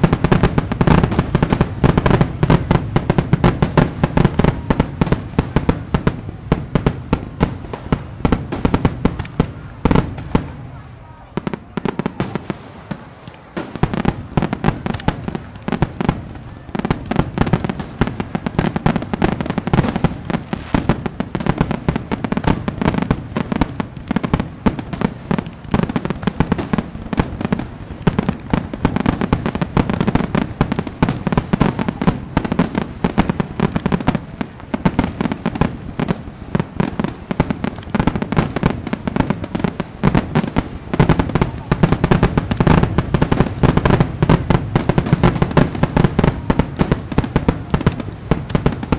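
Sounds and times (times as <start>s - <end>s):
fireworks crackling and banging: 0.0s - 48.9s.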